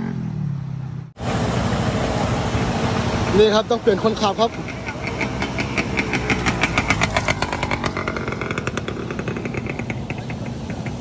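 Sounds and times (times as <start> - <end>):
motorcycle engine revving: 0.0 - 1.1, 2.9 - 11.0.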